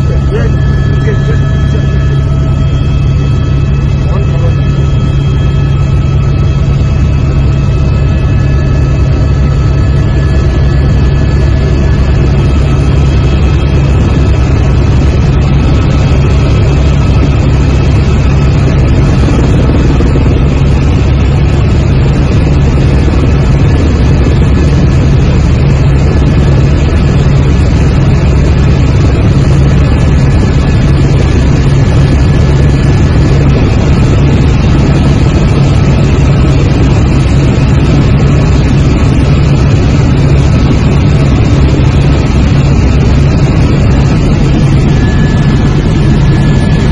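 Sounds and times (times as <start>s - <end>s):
helicopter engine and rotor drone: 0.0s - 46.9s.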